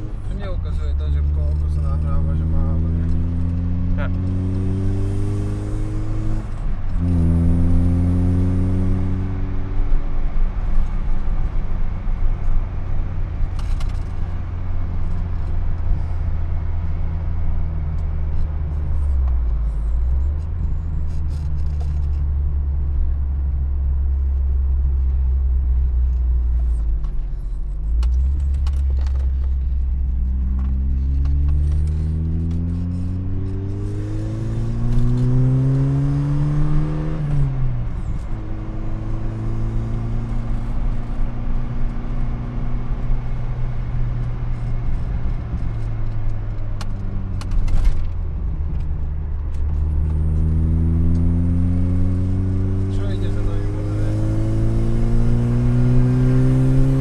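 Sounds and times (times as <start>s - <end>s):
car engine driving: 0.0s - 57.0s.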